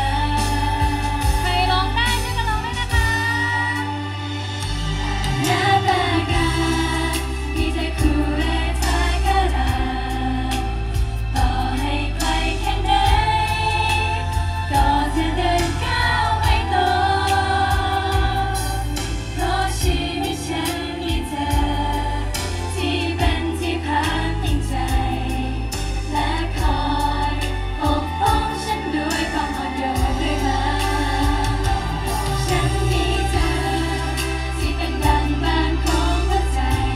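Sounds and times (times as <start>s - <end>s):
girl group singing pop song: 0.0s - 36.9s
heavy bass backing track: 0.0s - 36.9s.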